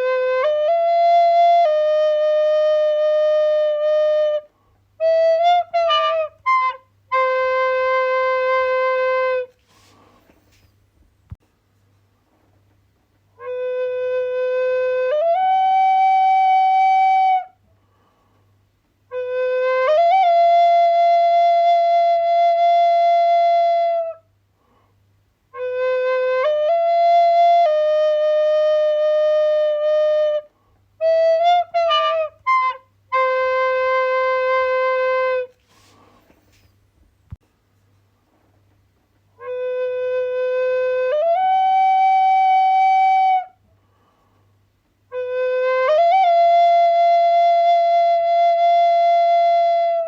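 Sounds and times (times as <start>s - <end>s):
wind instrument long held notes: 0.0s - 10.6s, 13.3s - 17.6s, 19.1s - 24.3s, 25.5s - 36.7s, 39.4s - 44.2s, 45.1s - 50.0s.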